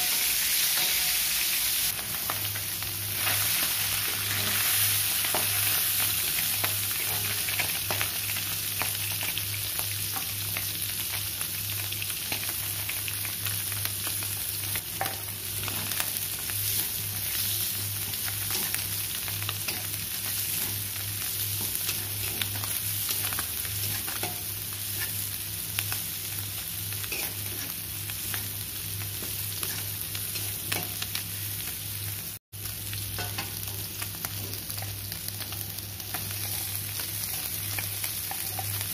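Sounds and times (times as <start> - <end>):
oil sizzling in a wok: 0.0 - 38.9.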